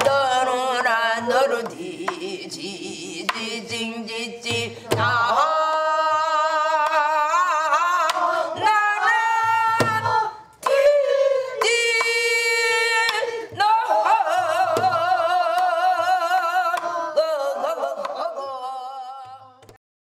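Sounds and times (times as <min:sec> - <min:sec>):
woman singing with vibrato: 0:00.0 - 0:19.6.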